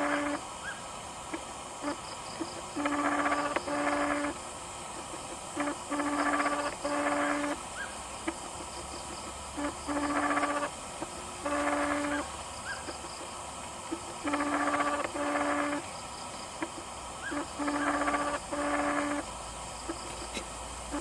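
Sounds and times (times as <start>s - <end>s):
animal buzzy calls: 0.0s - 21.0s.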